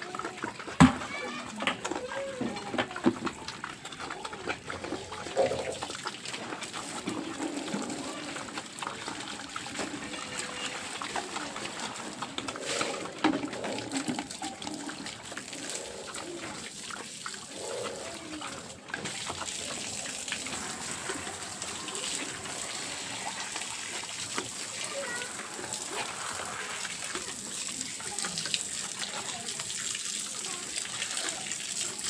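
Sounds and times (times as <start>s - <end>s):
water running and splashing: 0.0s - 32.0s.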